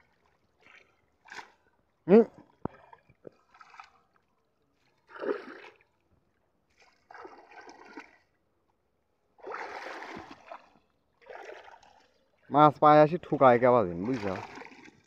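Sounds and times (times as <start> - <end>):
pond water splashing: 0.0 - 8.5, 9.3 - 15.0.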